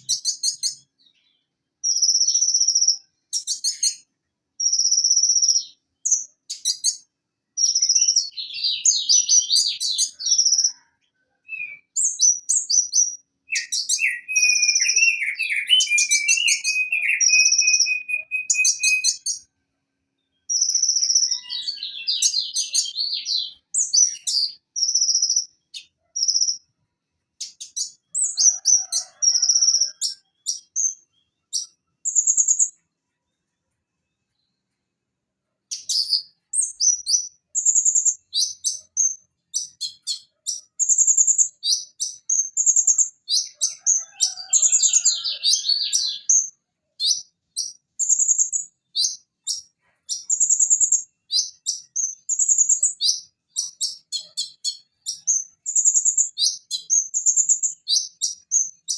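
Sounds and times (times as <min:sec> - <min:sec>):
sunbird chirps and trills: 0:00.0 - 0:19.5, 0:20.1 - 0:33.4, 0:35.6 - 0:58.9.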